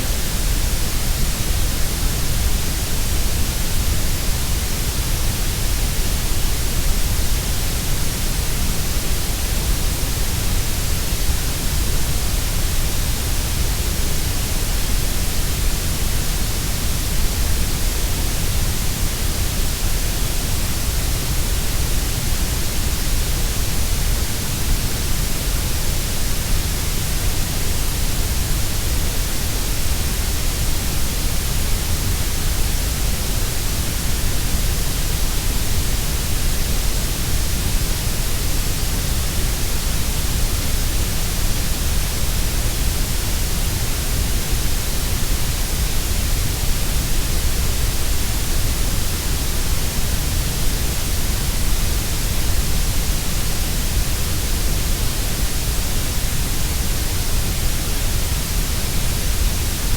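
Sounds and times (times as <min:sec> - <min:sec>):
steady grey noise hiss: 0:00.0 - 0:59.9.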